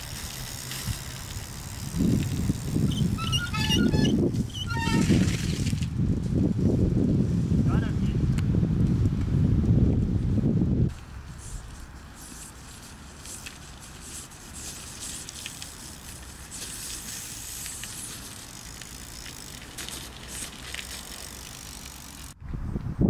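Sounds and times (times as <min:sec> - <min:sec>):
bike tyres crunching on gravel: 0:00.0 - 0:07.5, 0:10.9 - 0:22.4.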